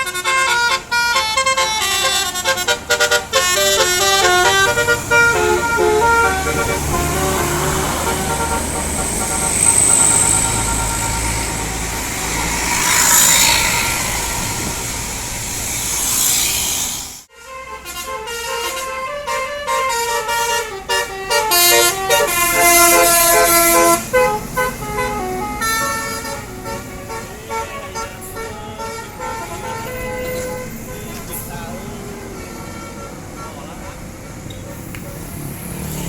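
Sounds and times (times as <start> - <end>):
air horns playing a tune: 0.0 - 15.3, 17.3 - 31.2
vehicle and road noise: 0.0 - 36.0.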